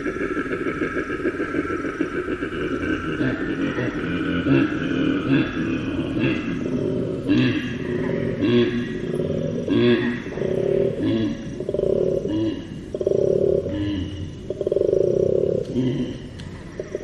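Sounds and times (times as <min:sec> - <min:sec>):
koala bellowing: 0:01.4 - 0:17.0.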